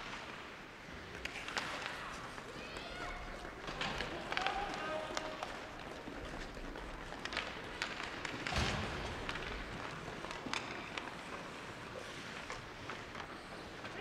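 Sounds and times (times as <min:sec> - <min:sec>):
hockey sticks and puck clacking: 0:00.0 - 0:14.0
steady noisy rink background: 0:00.0 - 0:14.0.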